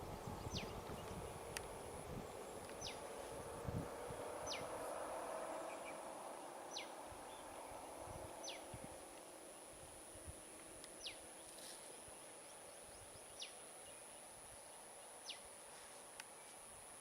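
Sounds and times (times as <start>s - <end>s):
faint outdoor background noise: 0.0s - 17.0s
steady high-pitched whine: 0.0s - 17.0s.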